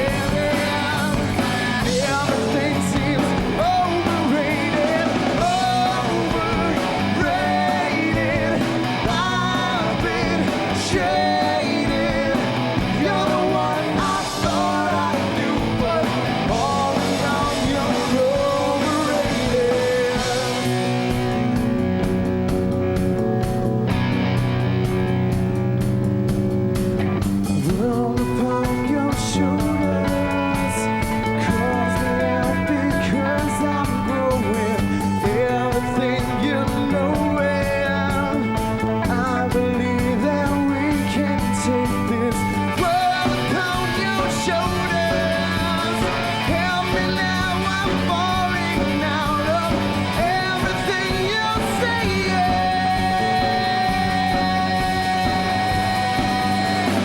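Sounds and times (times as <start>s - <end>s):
lead singer: 0.0s - 25.4s, 27.0s - 57.0s
drums steady beat: 0.0s - 57.0s
electric guitars: 0.0s - 57.0s
rock band playing live: 0.0s - 57.0s.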